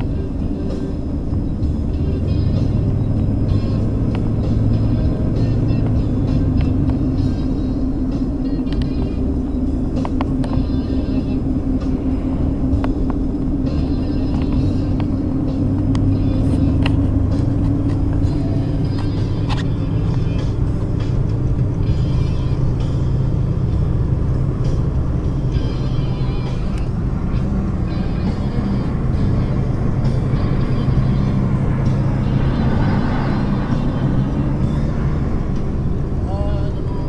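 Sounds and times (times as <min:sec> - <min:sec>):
tyres on snowy road: 0:00.0 - 0:37.0
vehicle engine drone: 0:00.0 - 0:37.0.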